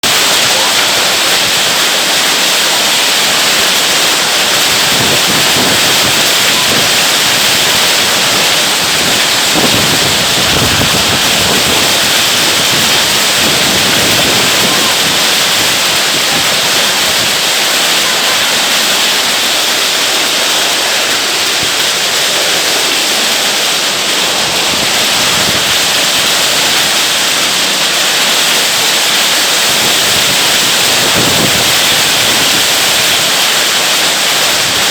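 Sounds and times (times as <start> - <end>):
hailstones pelting down: 0.0 - 34.9
heavy rain: 0.0 - 34.9.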